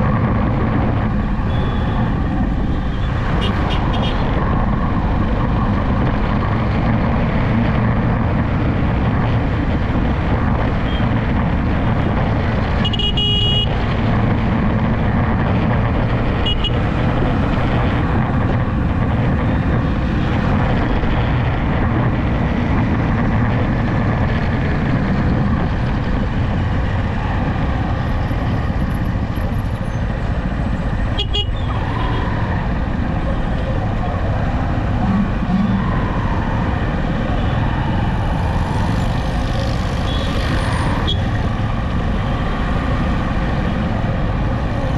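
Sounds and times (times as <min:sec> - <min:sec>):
road and wind noise: 0:00.0 - 0:44.9
vehicle engine hum: 0:00.0 - 0:44.9.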